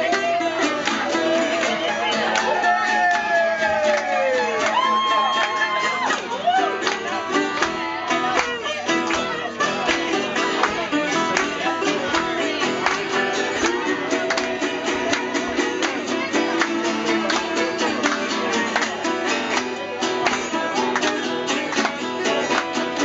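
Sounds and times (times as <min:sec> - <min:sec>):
acoustic guitar strumming: 0:00.0 - 0:23.0
plucked stringed instrument: 0:00.0 - 0:23.0.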